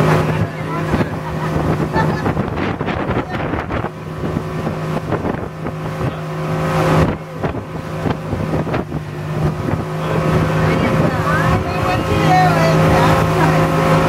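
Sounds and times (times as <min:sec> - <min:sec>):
motorboat engine running: 0:00.0 - 0:14.0
rushing water: 0:00.0 - 0:14.0
wind buffeting microphone: 0:00.0 - 0:14.0.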